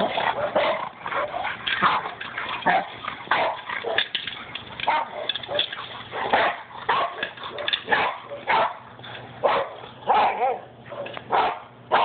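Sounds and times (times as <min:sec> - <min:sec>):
dogs barking roughly: 0:00.0 - 0:12.0.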